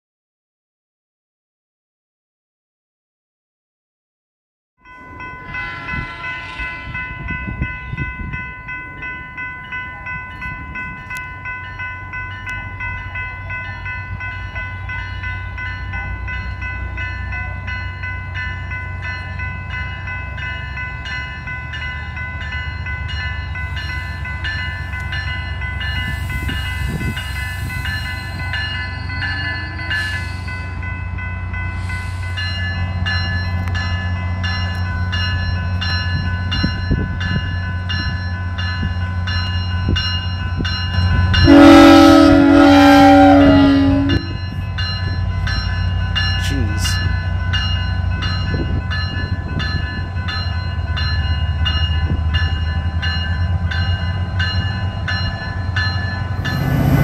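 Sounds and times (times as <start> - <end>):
crossing bell ringing: 4.8 - 57.0
train rumble: 4.8 - 57.0.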